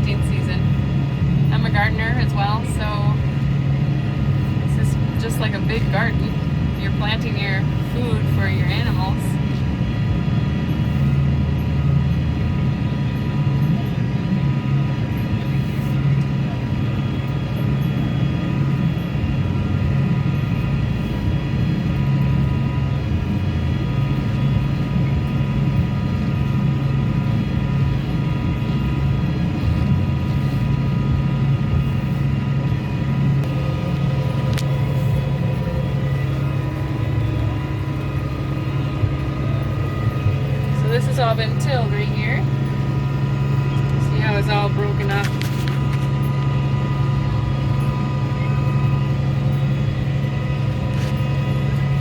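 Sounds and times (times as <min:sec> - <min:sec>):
thin steady whine: 0:00.0 - 0:52.0
tractor engine drone: 0:00.0 - 0:52.0.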